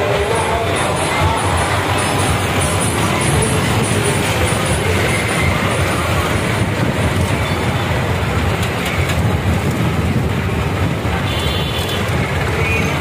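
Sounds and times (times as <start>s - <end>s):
tractors driving past: 0.0s - 13.0s.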